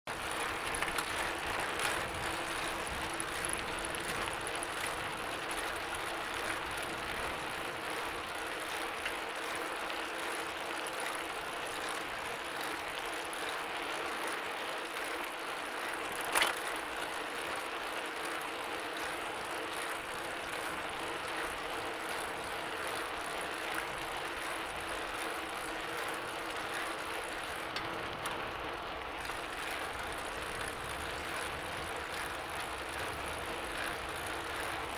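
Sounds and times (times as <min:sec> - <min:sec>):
bicycle mechanical whir: 0:00.1 - 0:34.9.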